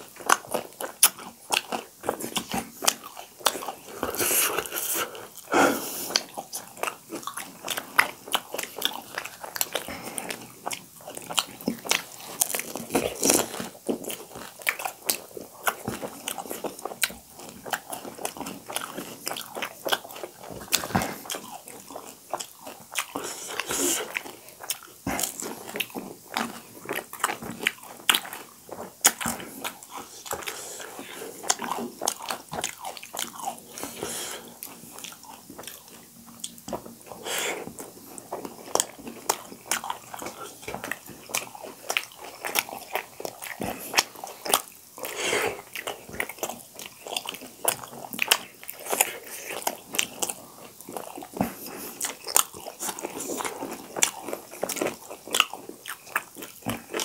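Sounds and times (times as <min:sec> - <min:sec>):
chewing dumplings: 0:00.0 - 0:57.0.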